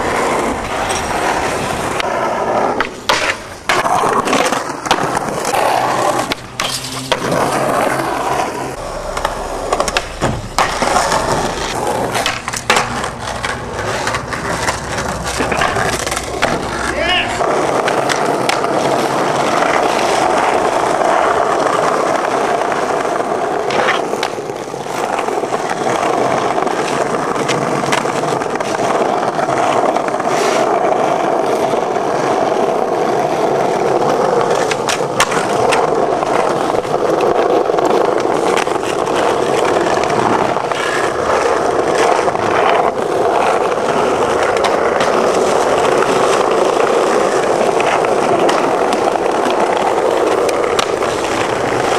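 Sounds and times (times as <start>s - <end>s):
skateboard clacks: 0.0s - 51.9s
skateboard wheels rolling on paving: 0.0s - 51.9s.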